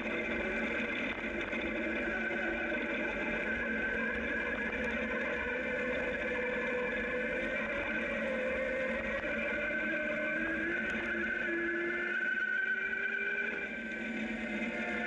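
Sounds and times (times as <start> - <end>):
electric motorcycle whine: 0.0 - 15.0.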